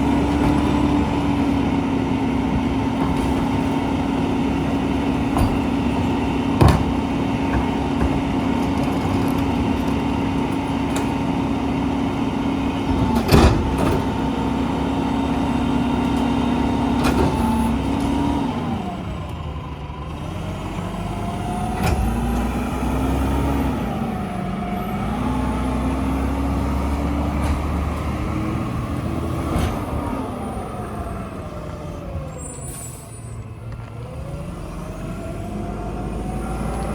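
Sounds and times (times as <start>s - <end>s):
garbage truck engine running: 0.0s - 36.9s.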